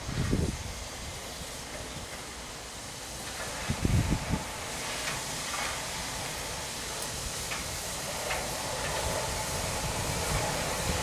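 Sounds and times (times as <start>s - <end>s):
locomotive low rumble: 0.0s - 11.0s
steam hissing: 0.0s - 11.0s.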